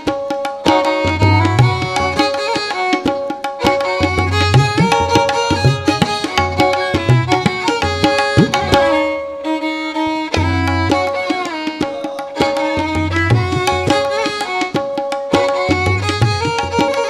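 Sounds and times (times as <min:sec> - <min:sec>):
instrumental melody: 0:00.0 - 0:17.0
tabla drumming: 0:00.0 - 0:17.0.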